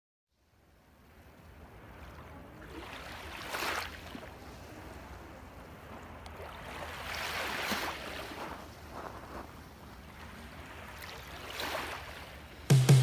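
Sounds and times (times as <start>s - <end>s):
waves washing in: 0.7s - 13.0s.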